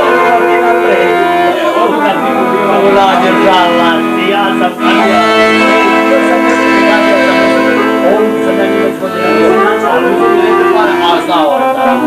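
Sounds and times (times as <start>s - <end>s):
button accordion playing a tune: 0.0s - 12.0s.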